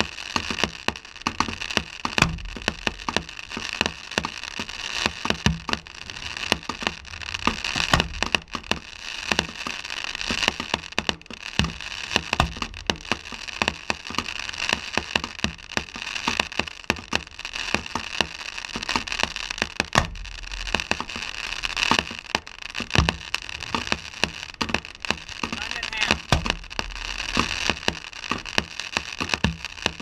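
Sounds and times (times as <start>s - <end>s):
fireworks booms: 0.0s - 30.0s
fireworks popping and crackling: 0.0s - 30.0s.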